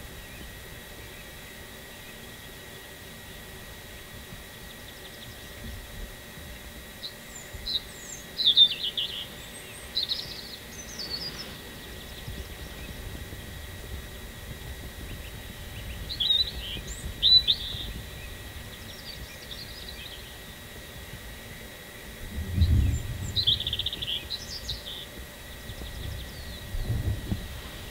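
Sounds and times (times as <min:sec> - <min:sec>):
birds chirping: 0:00.0 - 0:27.9
low outdoor rumble: 0:00.0 - 0:27.9.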